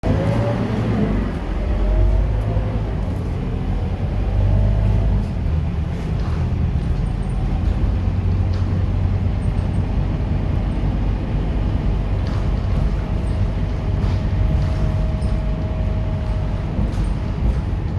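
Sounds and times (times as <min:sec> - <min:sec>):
bus diesel engine drone: 0:00.0 - 0:17.9
road noise: 0:00.0 - 0:17.9.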